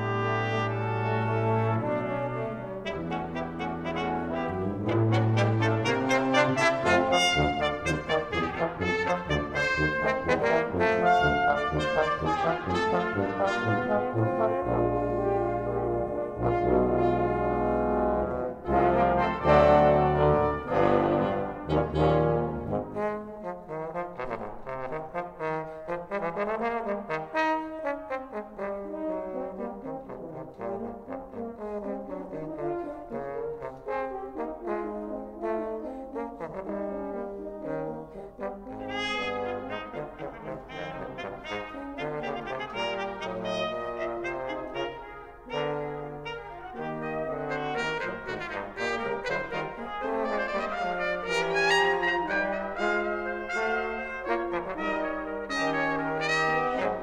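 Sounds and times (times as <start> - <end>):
brass ensemble playing: 0.0 - 57.0.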